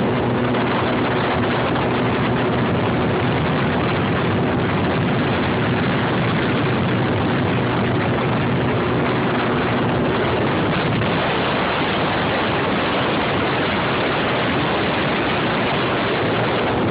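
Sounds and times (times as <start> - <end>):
wind and road noise: 0.0 - 16.9.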